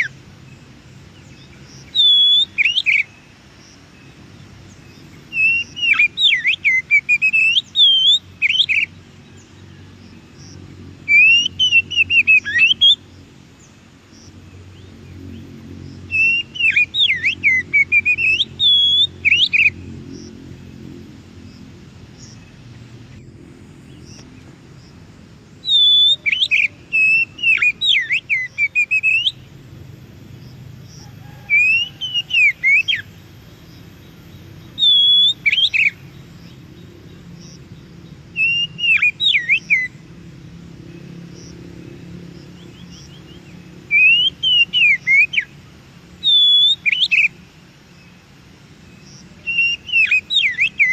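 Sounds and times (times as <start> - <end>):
bird singing: 0.0 - 50.9.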